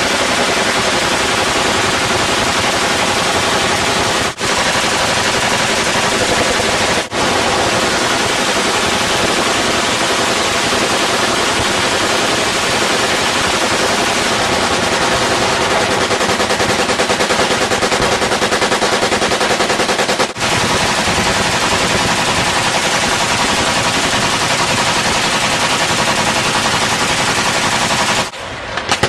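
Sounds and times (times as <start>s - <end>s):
machine gun firing: 0.0s - 29.0s.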